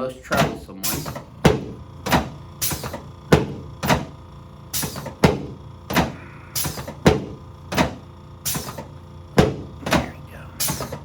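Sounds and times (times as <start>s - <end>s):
sharp knocks of chiropractic thrusts: 0.4s - 4.2s, 4.8s - 11.0s.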